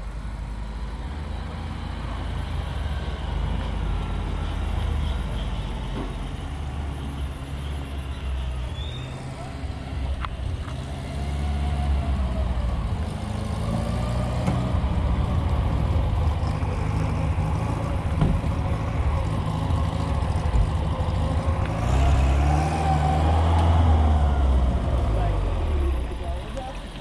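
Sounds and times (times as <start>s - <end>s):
car engines idling: 0.0s - 27.0s.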